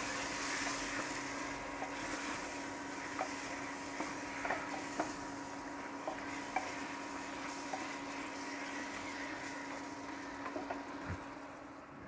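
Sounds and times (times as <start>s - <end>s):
food sizzling in a pot: 0.0s - 11.7s
electrical hum: 0.0s - 12.0s.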